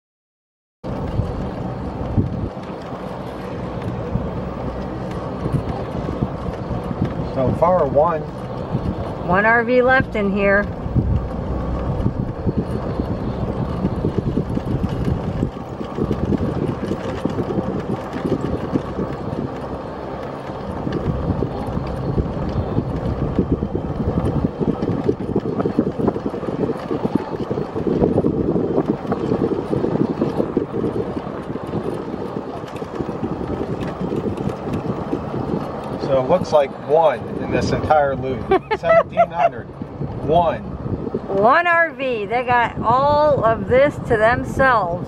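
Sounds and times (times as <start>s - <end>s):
small vehicle motor and tyres rumbling: 0.8s - 45.0s
wind buffeting microphone: 0.8s - 45.0s.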